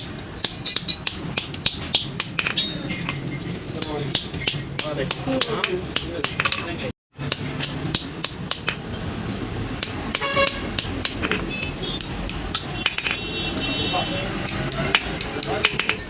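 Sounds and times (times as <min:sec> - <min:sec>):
hammer striking metal on anvil: 0:00.0 - 0:03.2, 0:03.8 - 0:13.2, 0:14.5 - 0:16.0.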